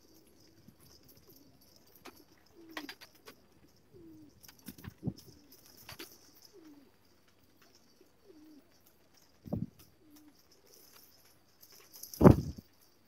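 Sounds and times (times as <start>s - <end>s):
pigeons cooing softly: 0.0s - 13.0s.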